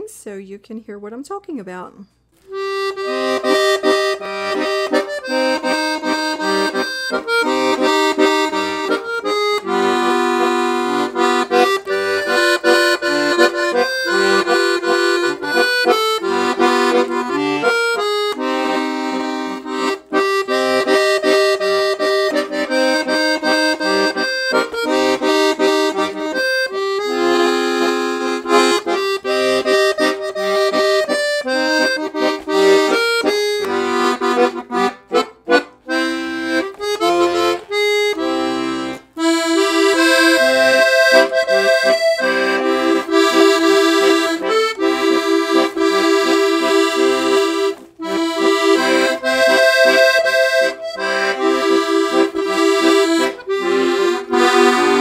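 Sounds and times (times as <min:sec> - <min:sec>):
accordion playing a tune: 0:02.3 - 0:55.0.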